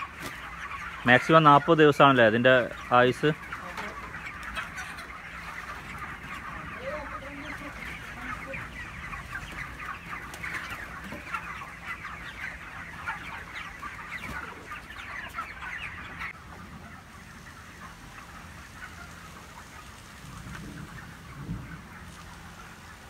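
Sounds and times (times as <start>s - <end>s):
chickens cheeping and clucking: 0.0s - 23.0s.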